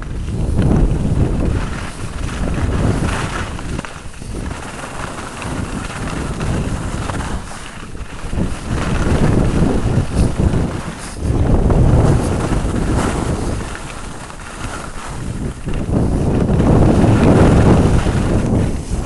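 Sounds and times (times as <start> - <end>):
wind buffeting microphone: 0.0 - 19.0
edges carving through snow: 0.1 - 19.0.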